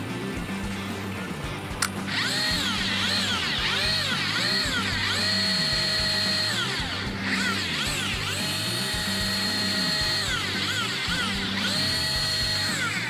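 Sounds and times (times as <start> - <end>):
electric fishing reel motor whining: 1.8 - 13.0.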